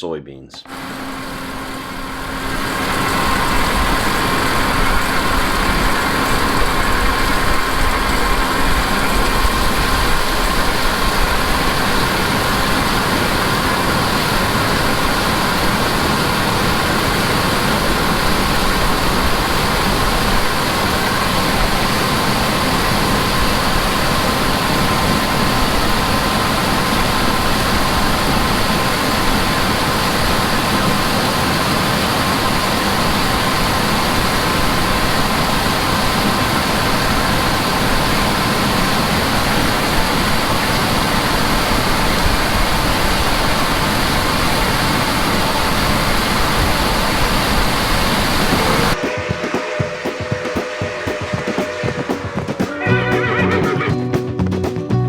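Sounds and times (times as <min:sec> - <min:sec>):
steady high whine: 0:00.0 - 0:54.1
harvest machinery engine drone: 0:00.6 - 0:49.0.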